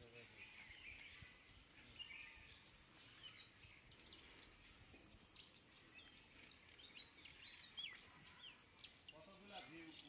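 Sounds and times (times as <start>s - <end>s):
bird chirps: 0.1s - 10.0s.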